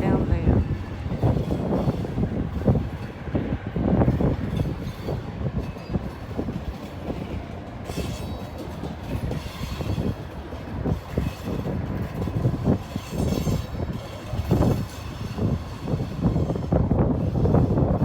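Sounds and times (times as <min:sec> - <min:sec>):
train low rumble: 0:00.0 - 0:18.0
train wheels clacking on rails: 0:00.5 - 0:18.0.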